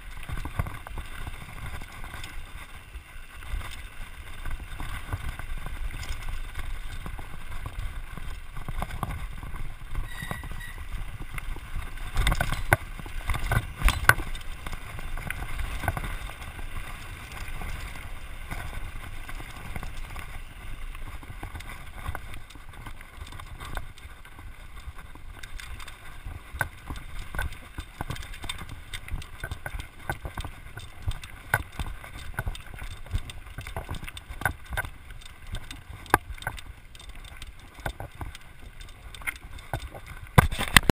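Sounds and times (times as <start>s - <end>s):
bike rattling and knocking: 0.0s - 40.9s
wind rumble on microphone: 0.0s - 40.9s.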